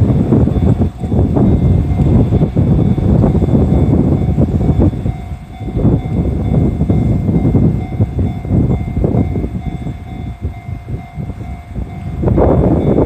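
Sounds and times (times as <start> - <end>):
train rumbling slowly: 0.0 - 13.0.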